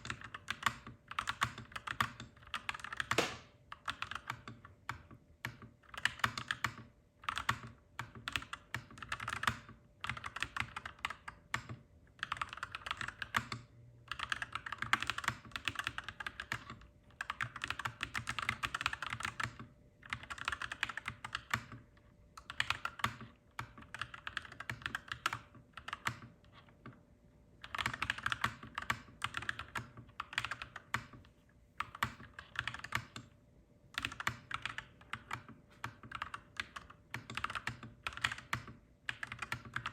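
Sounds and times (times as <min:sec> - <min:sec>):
mechanical keyboard typing: 0:00.0 - 0:21.8, 0:22.4 - 0:27.0, 0:27.6 - 0:31.2, 0:31.8 - 0:33.4, 0:34.0 - 0:39.9.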